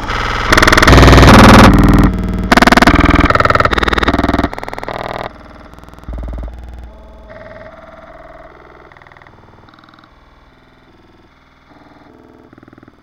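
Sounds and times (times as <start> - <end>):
distorted synthesizer chords: 0.0 - 11.2.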